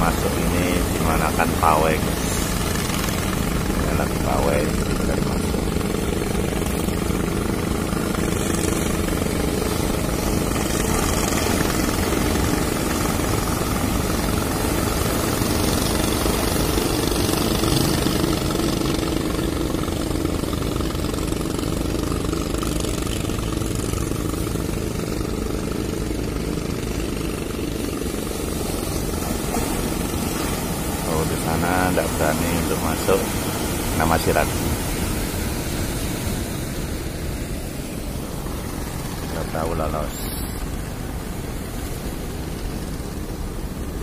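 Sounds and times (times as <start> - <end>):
ocean waves breaking on rocks: 0.0 - 19.3, 27.9 - 44.0.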